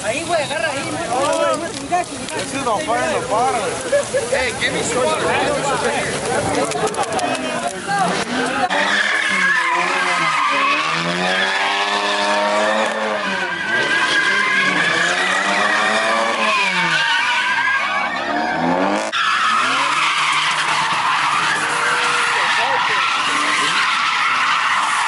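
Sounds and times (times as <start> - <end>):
car engine revving: 4.6 - 25.0
tyres squealing: 4.7 - 25.0.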